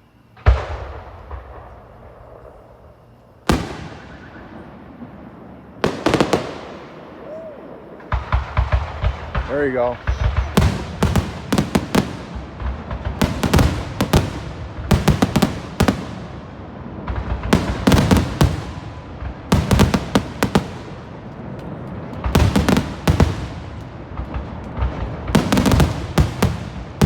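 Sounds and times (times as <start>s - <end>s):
fireworks bursting with bangs: 0.0s - 27.0s.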